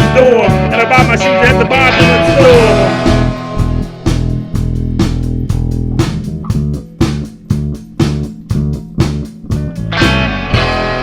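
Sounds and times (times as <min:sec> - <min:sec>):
bass guitar: 0:00.0 - 0:11.0
plucked guitar: 0:00.0 - 0:11.0
steady drum beat: 0:00.0 - 0:11.0.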